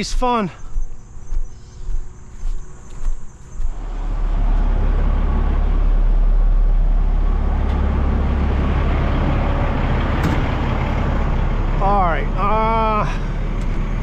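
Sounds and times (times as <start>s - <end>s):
heavy equipment engine rumbling: 0.6s - 14.0s.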